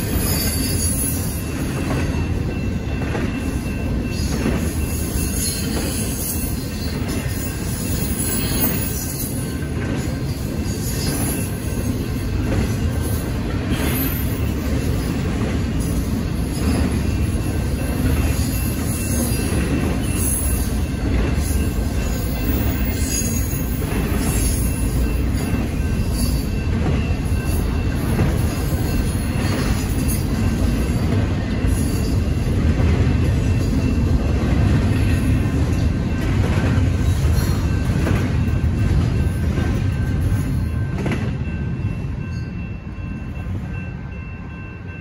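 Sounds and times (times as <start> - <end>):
freight train wheels rumbling on rail: 0.0 - 45.0.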